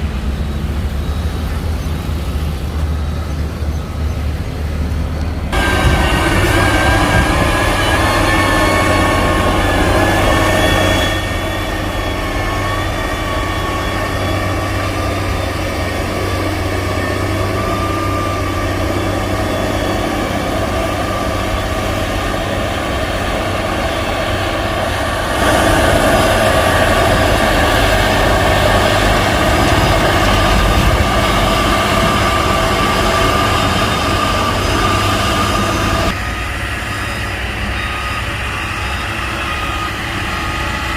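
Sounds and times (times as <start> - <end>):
heavy diesel engine rumbling: 0.0 - 40.9.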